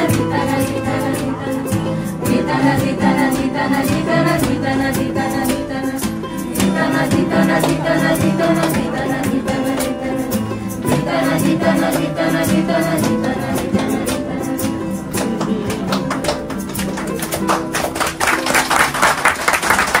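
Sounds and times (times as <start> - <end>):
group of voices singing: 0.0 - 17.0
strummed acoustic guitar: 0.0 - 18.9
ukulele strumming: 0.0 - 19.1.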